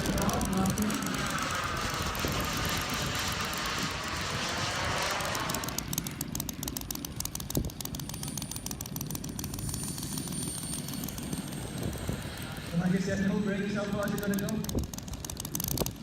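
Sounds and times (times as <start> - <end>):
model jet turbine whine: 0.0 - 16.0
steady low rumble: 0.0 - 16.0.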